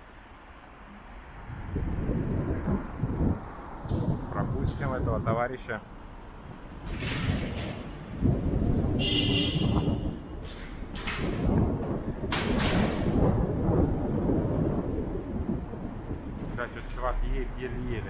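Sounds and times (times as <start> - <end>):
wind buffeting microphone: 1.2 - 18.0.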